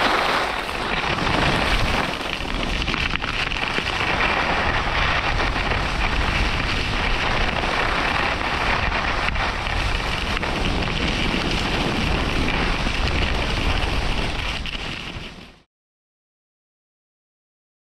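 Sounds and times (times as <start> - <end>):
skis scraping over snow: 0.0 - 15.7
wind rushing over microphone: 0.0 - 15.7.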